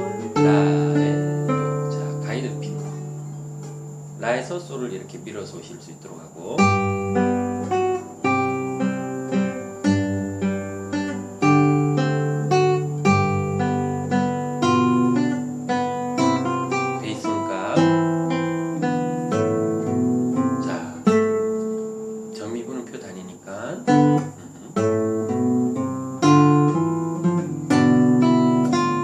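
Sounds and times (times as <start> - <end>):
classical guitar fingerstyle: 0.0 - 29.0.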